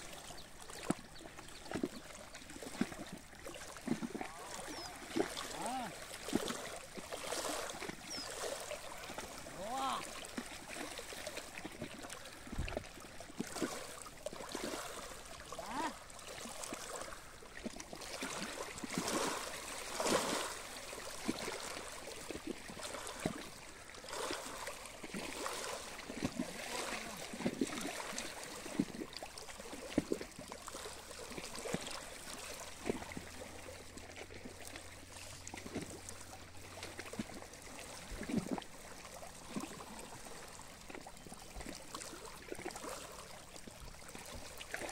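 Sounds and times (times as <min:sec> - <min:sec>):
ripples lapping stony shore: 0:00.0 - 0:44.9.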